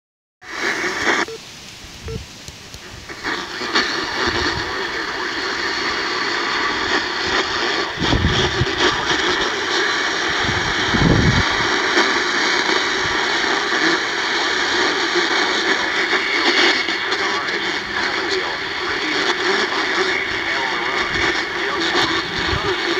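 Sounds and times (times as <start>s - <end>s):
radio static hiss: 0.4s - 22.9s.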